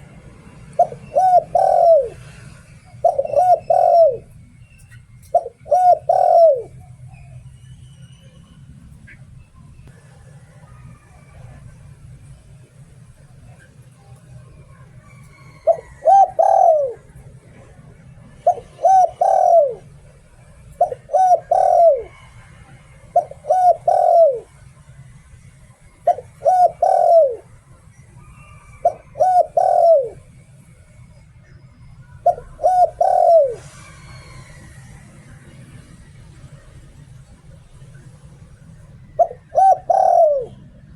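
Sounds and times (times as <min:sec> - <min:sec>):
dove cooing: 0:00.0 - 0:07.6, 0:09.9 - 0:24.7, 0:25.9 - 0:31.2, 0:31.8 - 0:40.9.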